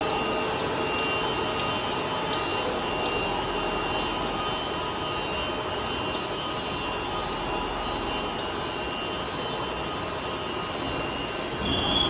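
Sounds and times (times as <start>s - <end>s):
industrial machinery whine and hiss: 0.0s - 12.0s.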